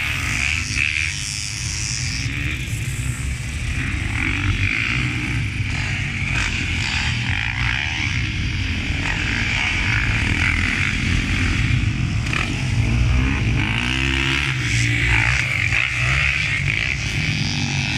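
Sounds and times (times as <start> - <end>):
dirt bike engines revving: 0.0 - 17.9.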